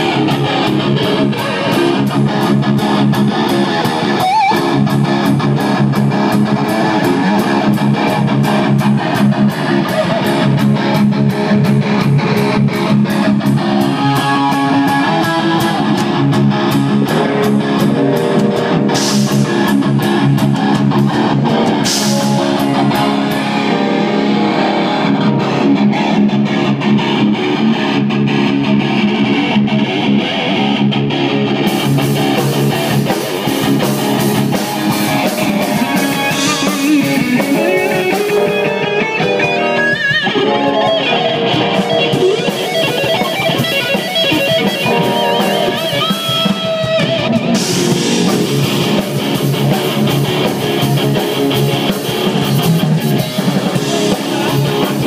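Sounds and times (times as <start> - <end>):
electric guitar riff: 0.0 - 55.0.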